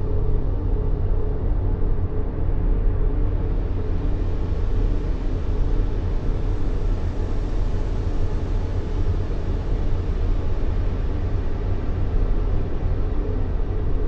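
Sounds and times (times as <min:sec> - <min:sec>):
white noise rumbling hiss: 0:00.0 - 0:14.0.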